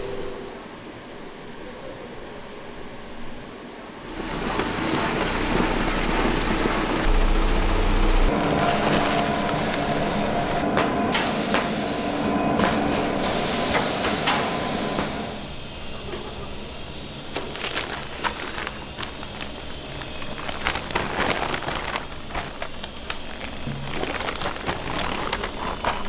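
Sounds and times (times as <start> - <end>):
factory machinery humming: 3.1 - 26.0.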